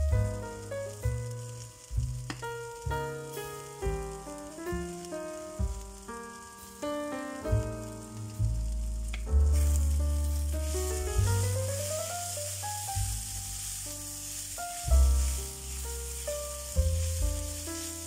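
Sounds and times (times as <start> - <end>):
onions sizzling in a frying pan: 0.0 - 18.0.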